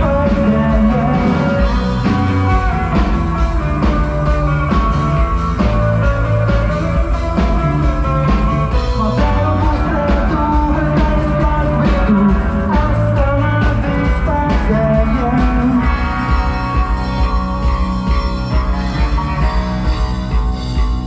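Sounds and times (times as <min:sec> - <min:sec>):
drums: 0:00.0 - 0:21.0
pulsing bass line: 0:00.0 - 0:21.0
sustained electric guitar notes: 0:00.0 - 0:21.0.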